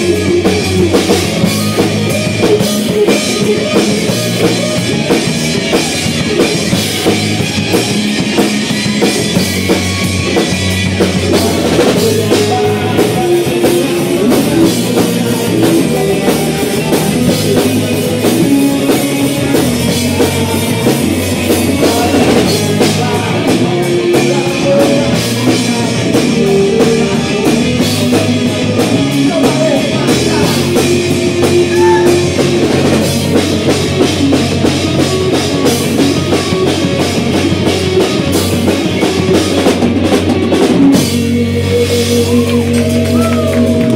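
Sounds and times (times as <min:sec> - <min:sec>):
bass guitar: 0:00.0 - 0:43.9
drum kit: 0:00.0 - 0:43.9
electric guitars: 0:00.0 - 0:43.9.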